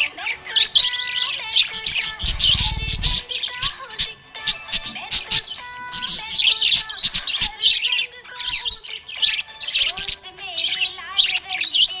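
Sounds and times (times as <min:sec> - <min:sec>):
budgies chirping and warbling: 0:00.0 - 0:12.0.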